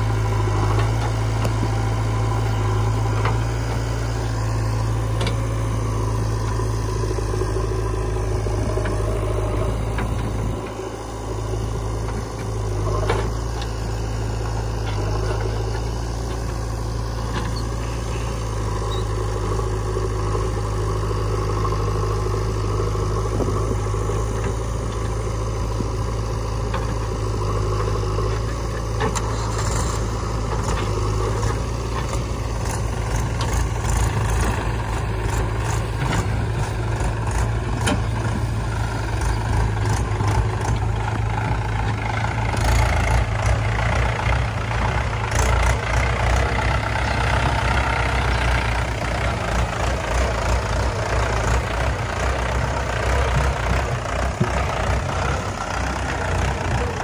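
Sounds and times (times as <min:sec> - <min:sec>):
backhoe loader engine running: 0:00.0 - 0:57.0
diesel tractor engine running: 0:00.0 - 0:57.0.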